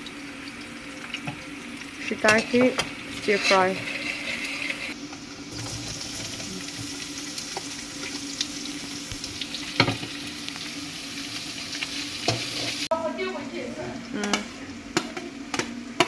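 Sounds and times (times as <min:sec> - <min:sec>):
mushrooms sizzling in a pan: 0:00.0 - 0:16.0.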